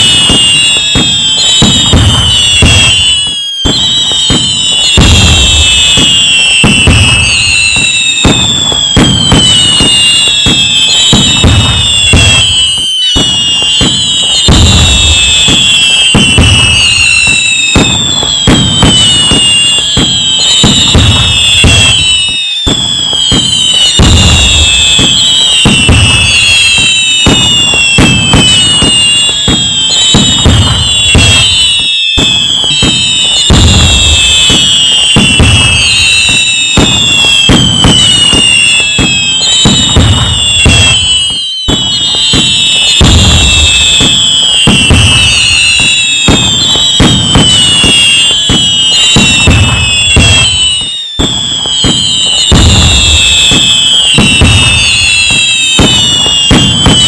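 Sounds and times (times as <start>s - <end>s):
fireworks bangs and crackling: 0.0s - 57.0s
fireworks whistles falling in pitch: 0.0s - 57.0s.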